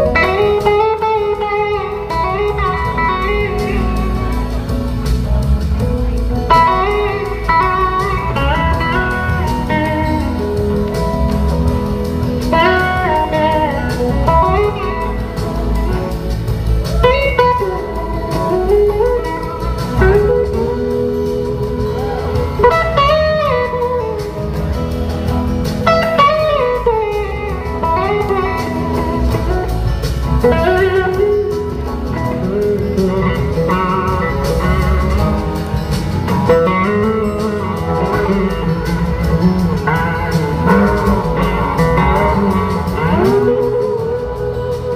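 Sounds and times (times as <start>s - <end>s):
bass guitar: 0.0s - 44.9s
drums: 0.0s - 44.9s
electric slide guitar solo: 0.0s - 44.9s.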